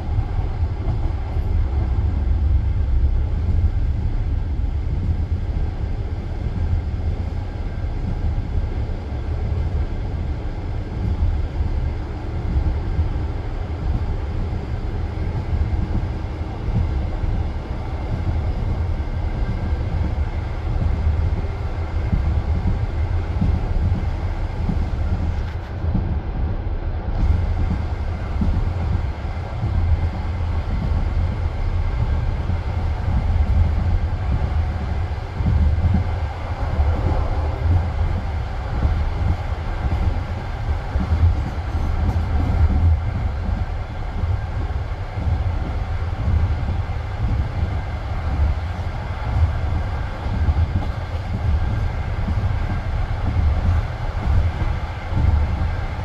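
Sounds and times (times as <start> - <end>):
train wheels knocking: 0.0 - 26.2, 27.2 - 56.0
train wheels rumbling on rails: 0.0 - 56.0.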